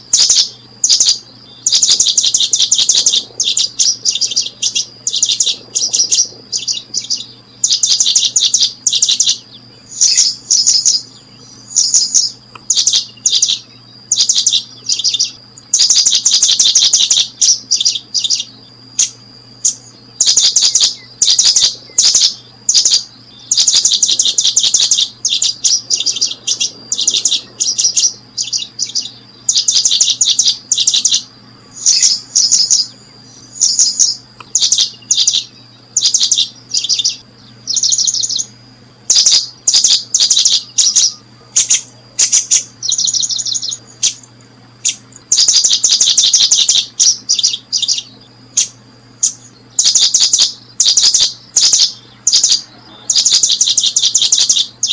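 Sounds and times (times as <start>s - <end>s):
small bird chirping trills: 0.0s - 54.9s.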